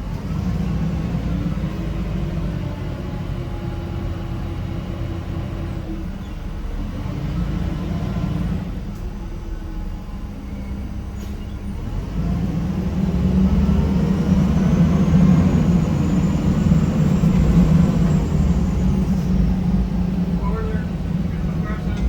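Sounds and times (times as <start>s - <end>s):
bus diesel engine humming: 0.0s - 22.0s
faint rising engine whine: 0.0s - 22.0s.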